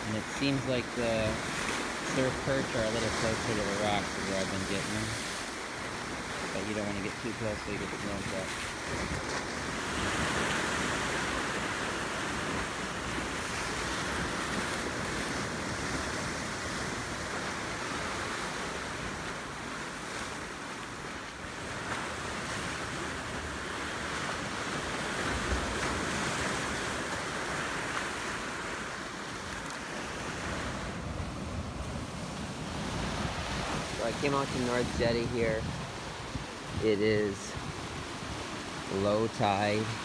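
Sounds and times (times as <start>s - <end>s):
surf breaking against rocks: 7.8s - 40.0s.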